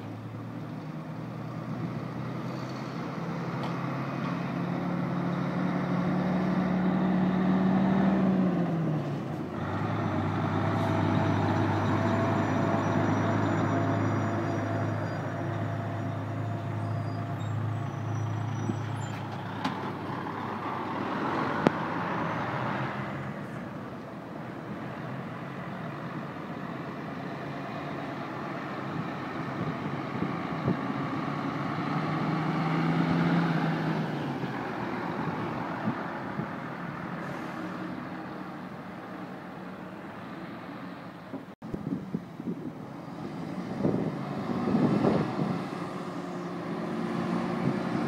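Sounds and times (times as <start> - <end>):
diesel trucks driving past: 0.0 - 48.0.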